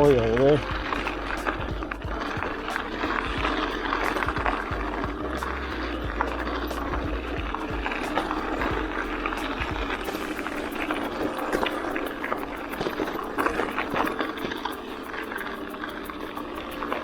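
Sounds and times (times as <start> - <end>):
bike rattling: 0.0 - 17.0.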